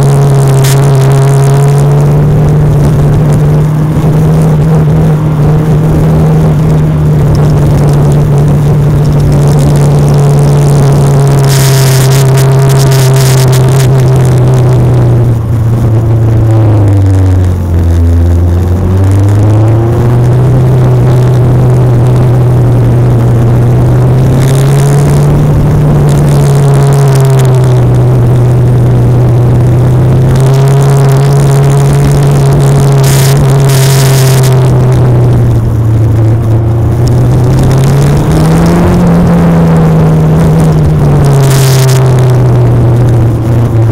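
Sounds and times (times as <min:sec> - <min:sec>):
race car engine at high revs: 0:00.0 - 0:43.9.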